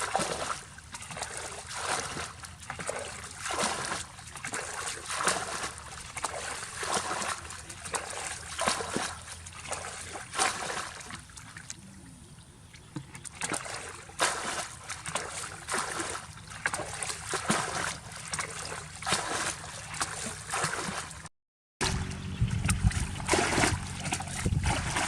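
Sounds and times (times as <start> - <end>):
water splashing and trickling: 0.0 - 25.0.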